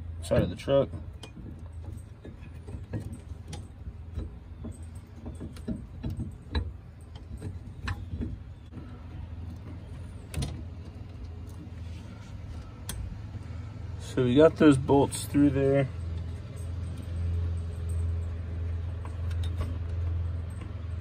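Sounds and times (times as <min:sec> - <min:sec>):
metal clicking and scraping on rail: 0:00.0 - 0:21.0.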